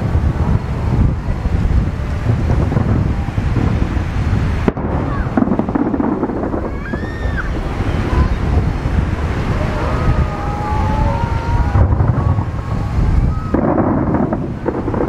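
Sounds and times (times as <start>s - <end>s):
firework whistling: 0.0s - 15.0s
fireworks bursting: 0.0s - 15.0s.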